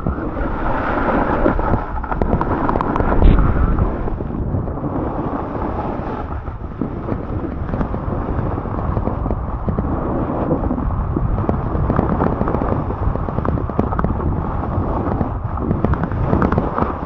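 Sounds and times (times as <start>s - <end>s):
snowboard scraping over snow: 0.0s - 17.0s
wind buffeting microphone: 0.0s - 17.0s.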